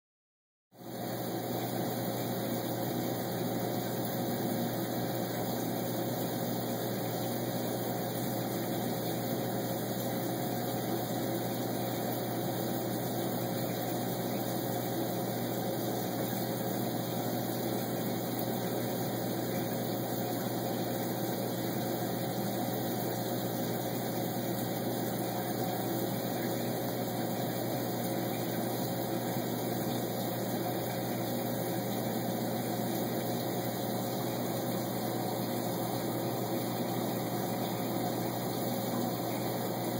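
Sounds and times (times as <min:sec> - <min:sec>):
mechanical hum with steady tone: 0:00.8 - 0:39.9.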